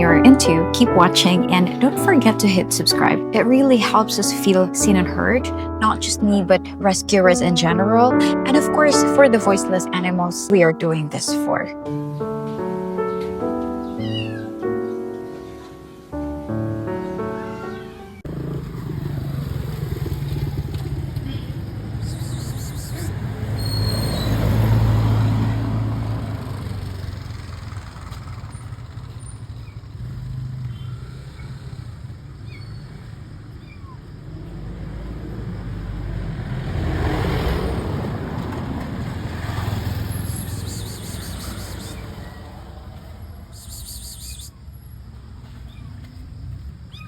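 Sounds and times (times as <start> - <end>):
vehicle engines running: 0.0 - 14.4, 18.0 - 46.9
vehicles passing: 0.0 - 47.0.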